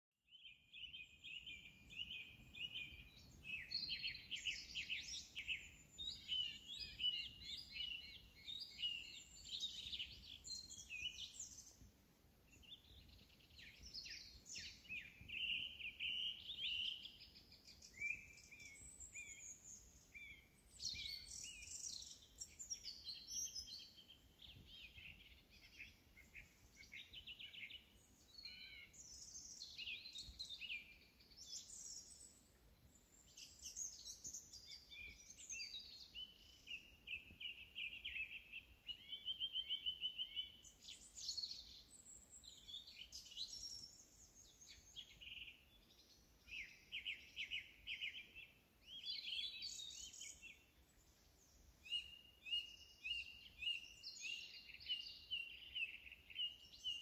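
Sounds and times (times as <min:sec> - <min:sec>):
faint low background noise: 0:00.3 - 0:57.0
songbirds chorus: 0:00.3 - 0:57.0.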